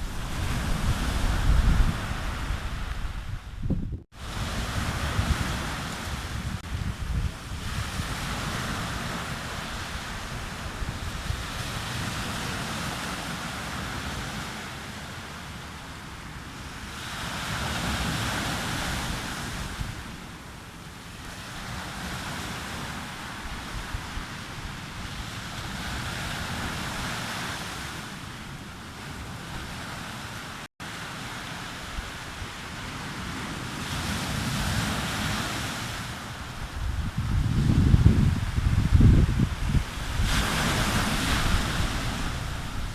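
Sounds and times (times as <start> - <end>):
waves breaking on a beach: 0.0 - 42.9.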